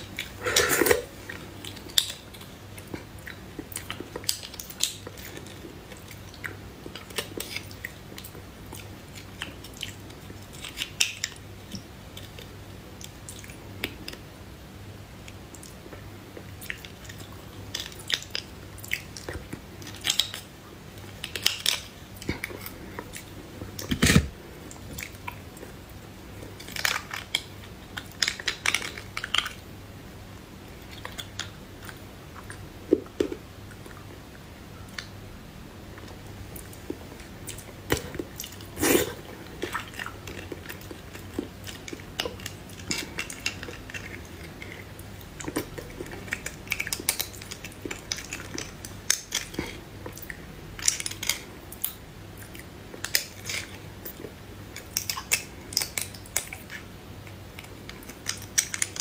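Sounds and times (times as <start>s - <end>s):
wet chewing and mouth clicks: 0.1s - 14.2s, 15.2s - 29.6s, 36.0s - 59.0s.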